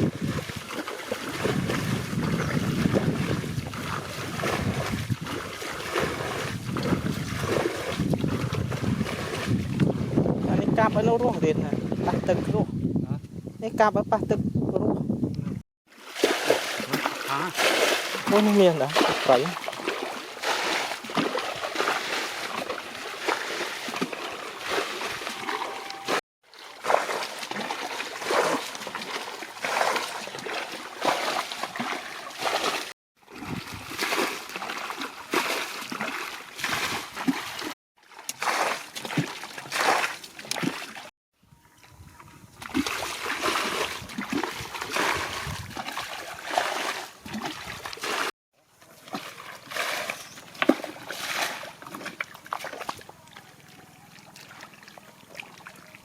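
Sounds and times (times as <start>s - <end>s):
shallow water splashing: 0.0s - 12.6s, 15.9s - 41.1s, 42.6s - 56.0s.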